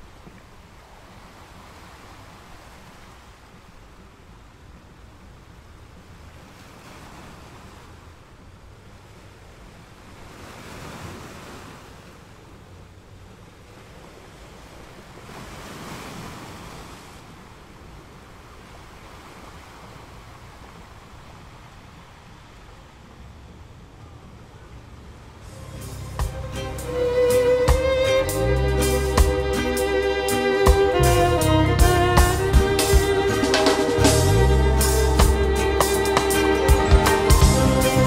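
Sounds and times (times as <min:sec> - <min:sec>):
sea waves washing in: 0:00.0 - 0:38.0.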